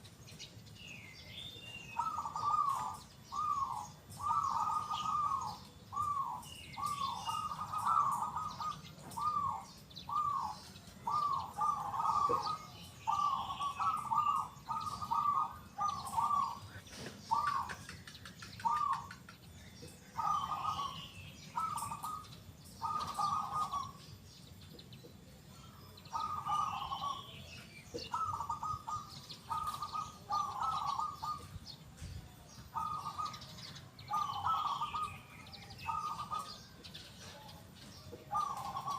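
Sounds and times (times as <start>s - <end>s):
dove cooing: 1.8s - 19.4s, 20.1s - 24.1s, 26.0s - 38.9s.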